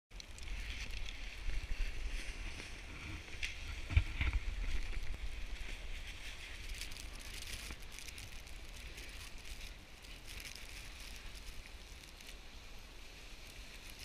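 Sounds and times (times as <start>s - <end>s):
snowboard sliding over snow: 0.4s - 14.0s.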